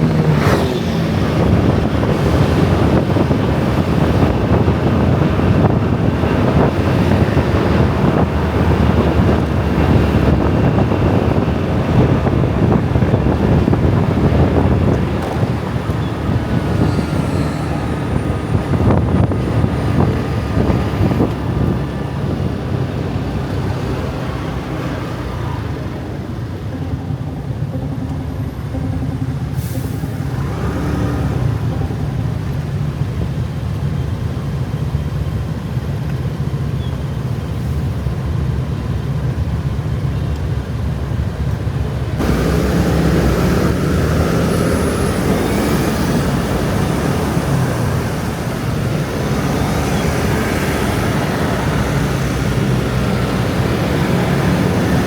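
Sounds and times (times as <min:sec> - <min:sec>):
dense scooter traffic passing: 0:00.0 - 0:55.0.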